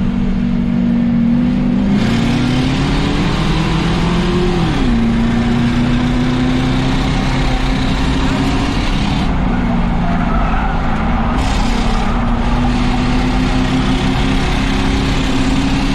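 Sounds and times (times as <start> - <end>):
race car engine: 0.0 - 15.9
road and wind noise: 0.0 - 15.9.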